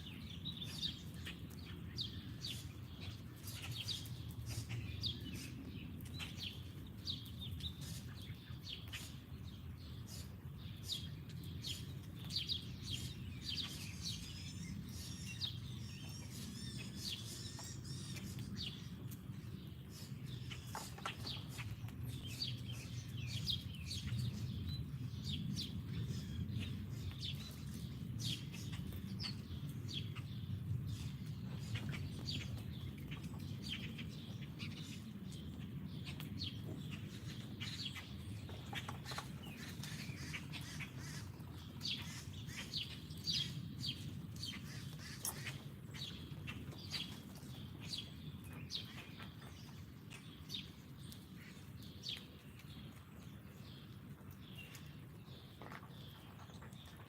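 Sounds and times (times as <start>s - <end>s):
bird warbling song: 0.0s - 57.0s
songbirds chirping: 0.0s - 57.0s.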